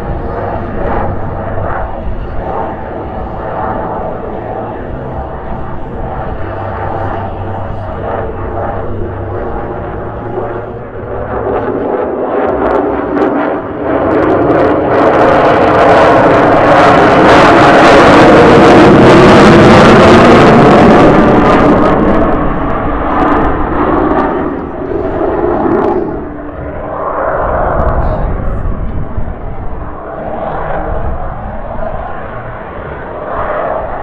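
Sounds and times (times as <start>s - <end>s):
jet engine roar: 0.0s - 34.0s.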